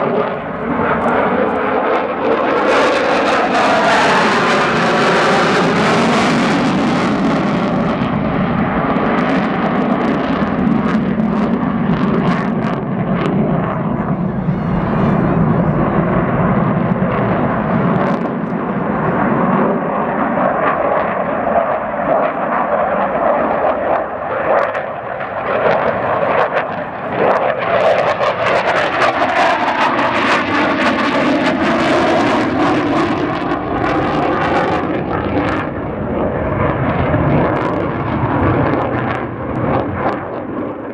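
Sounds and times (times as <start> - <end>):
fighter jet flying past: 0.0 - 40.9.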